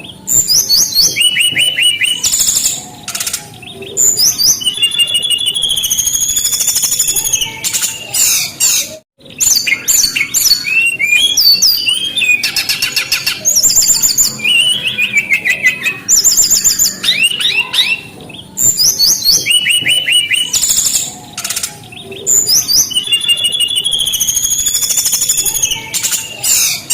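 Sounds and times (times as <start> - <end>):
bird singing whistles and trills: 0.0 - 26.9.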